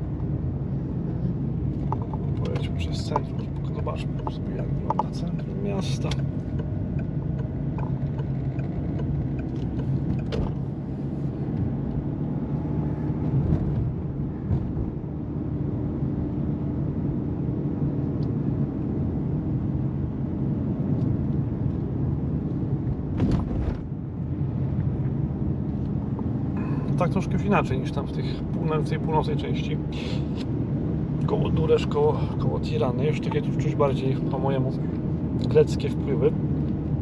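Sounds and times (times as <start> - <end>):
car engine hum: 0.0 - 37.0
tyre and road rumble: 0.0 - 37.0.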